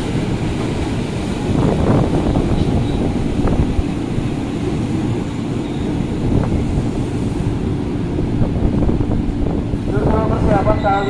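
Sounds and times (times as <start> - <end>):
electric train rumbling: 0.0 - 11.0
wind on microphone: 0.0 - 11.0.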